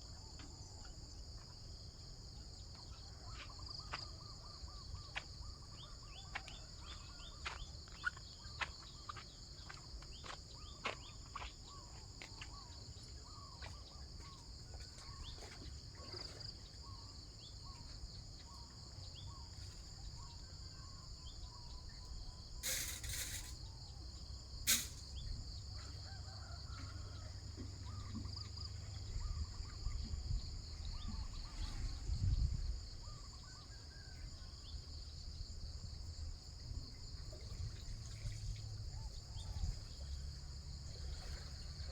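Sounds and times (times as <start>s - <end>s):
crickets droning: 0.0s - 41.9s.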